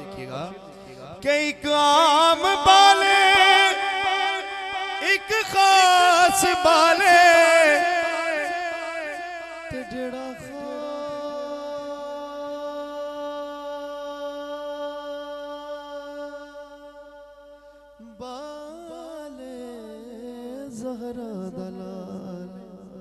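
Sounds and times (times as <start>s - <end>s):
man singing: 0.0s - 23.0s.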